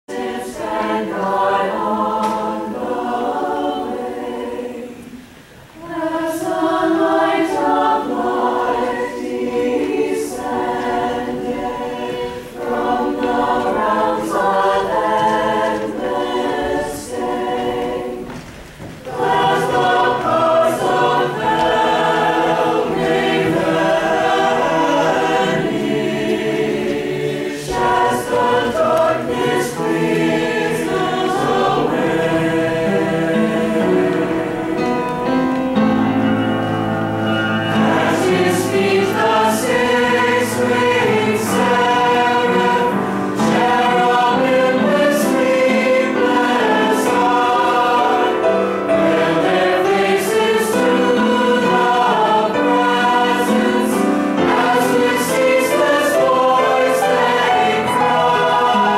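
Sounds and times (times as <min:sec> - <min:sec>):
mixed choir singing: 0:00.0 - 0:58.9.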